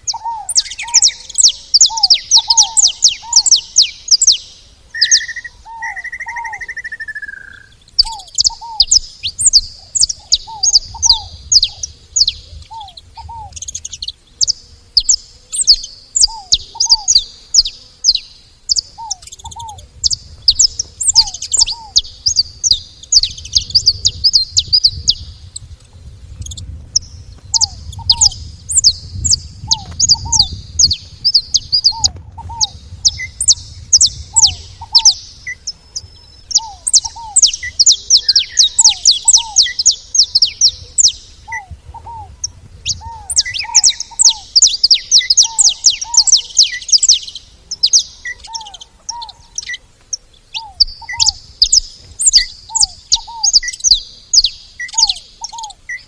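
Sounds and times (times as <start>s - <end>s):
finches chirping: 0.0s - 56.0s.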